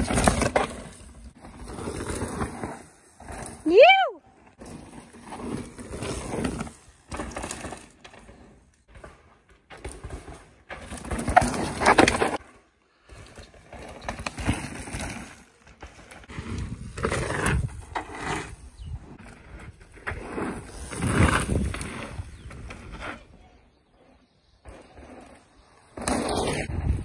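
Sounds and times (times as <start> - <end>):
bike rattling over bumps: 0.0 - 3.7, 4.4 - 23.2
bike tyres skidding on dirt: 0.0 - 27.0.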